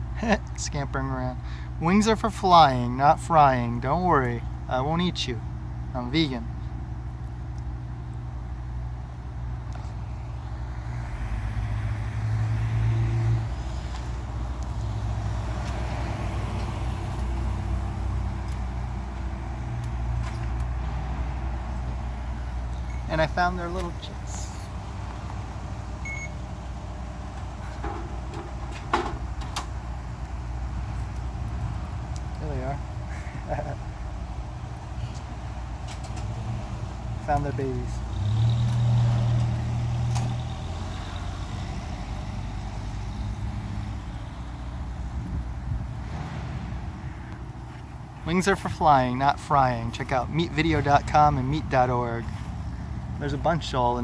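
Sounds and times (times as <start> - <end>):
road traffic rumble: 0.0 - 54.0
vehicle engine humming: 0.0 - 54.0.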